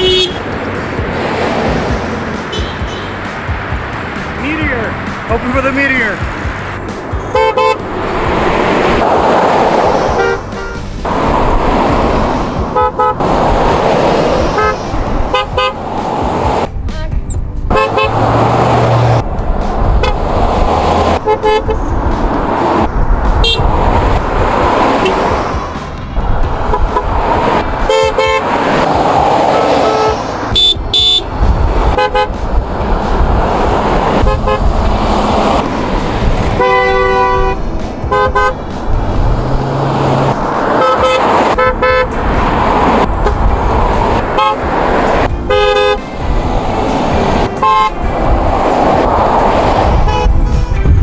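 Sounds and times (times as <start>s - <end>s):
car horns honking: 0.0s - 51.0s
traffic noise: 0.0s - 51.0s.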